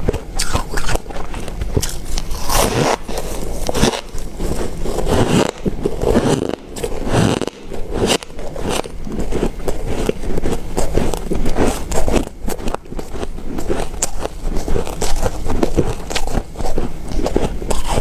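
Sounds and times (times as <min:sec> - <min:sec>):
ice crunching being chewed: 0:00.0 - 0:18.0.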